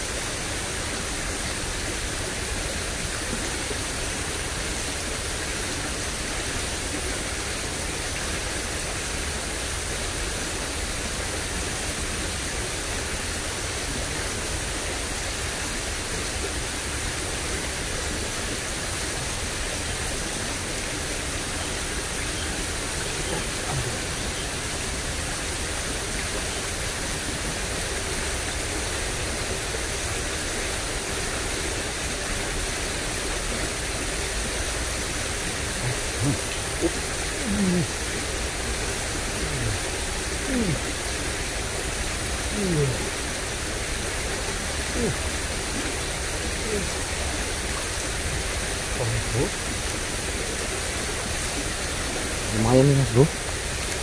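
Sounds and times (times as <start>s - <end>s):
water rushing in a ditch: 0.0s - 54.0s.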